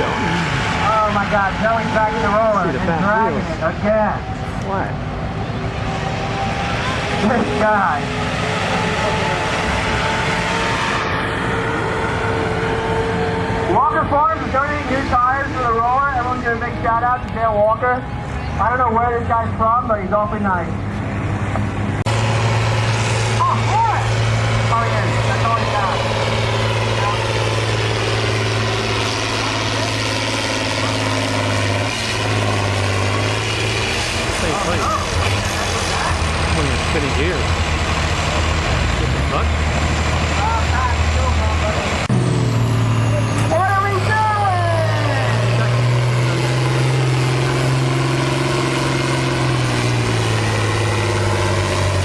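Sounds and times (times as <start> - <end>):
tractor engine running steadily: 0.0 - 52.0.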